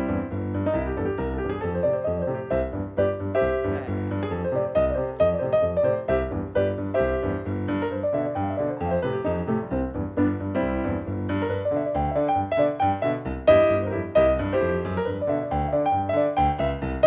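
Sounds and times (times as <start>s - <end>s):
boogie-woogie piano: 0.0s - 17.0s.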